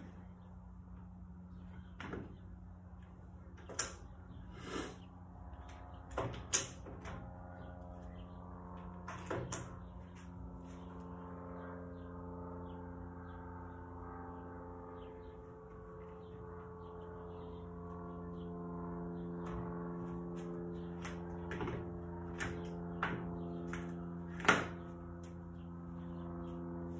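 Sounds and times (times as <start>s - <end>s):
steady hum: 0.0s - 26.9s.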